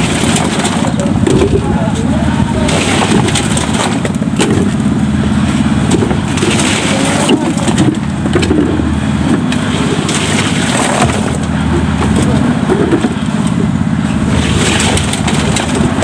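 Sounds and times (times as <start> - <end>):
buckets knocking and scraping: 0.0 - 16.0
concrete mixer engine running: 0.0 - 16.0
workers calling: 0.0 - 16.0.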